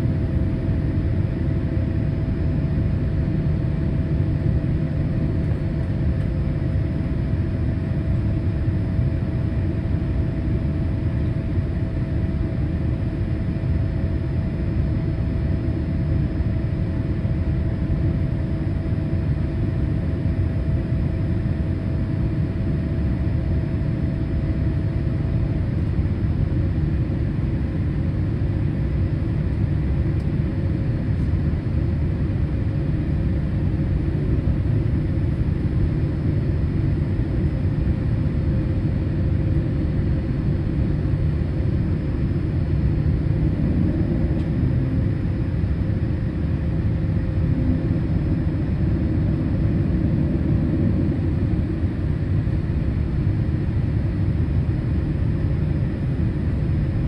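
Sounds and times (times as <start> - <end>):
airliner cabin rumble: 0.0 - 57.0
faint engine whine: 0.0 - 57.0.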